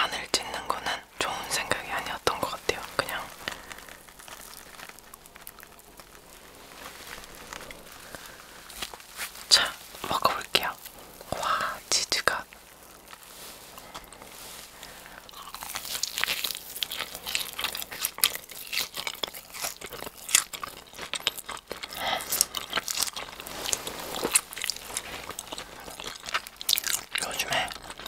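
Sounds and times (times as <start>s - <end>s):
crisp crust crunching in mouth: 1.5s - 28.0s.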